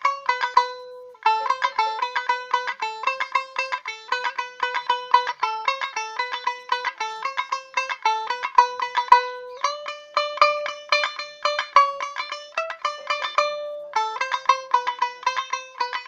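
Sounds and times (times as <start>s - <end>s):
plucked lute notes: 0.0s - 16.0s.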